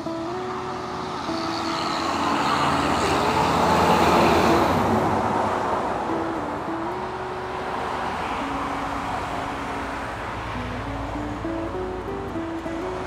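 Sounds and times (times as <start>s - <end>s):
large truck driving past: 0.0s - 13.0s.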